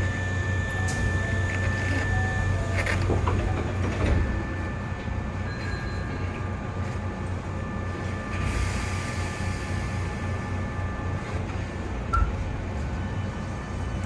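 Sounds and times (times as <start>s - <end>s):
train wheels low rumble: 0.0s - 14.0s.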